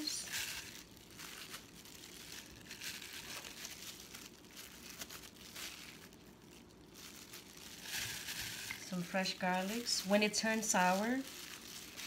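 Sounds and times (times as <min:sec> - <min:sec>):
thin plastic crinkling: 0:00.0 - 0:12.0.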